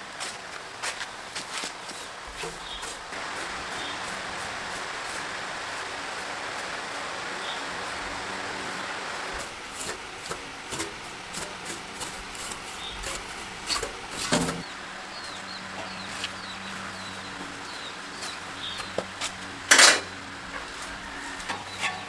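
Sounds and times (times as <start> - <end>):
rasping rubbing noise: 1.9 - 22.0.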